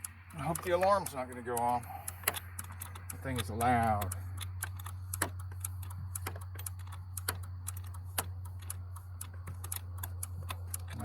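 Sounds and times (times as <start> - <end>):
ratchet clicking: 0.0 - 11.0
steady low hum: 0.0 - 11.0.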